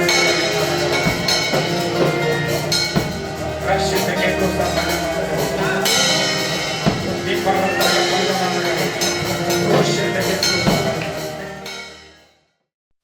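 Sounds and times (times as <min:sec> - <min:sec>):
sustained keyboard chords: 0:00.0 - 0:12.2
drums: 0:00.0 - 0:12.3
worship band music: 0:00.0 - 0:12.3.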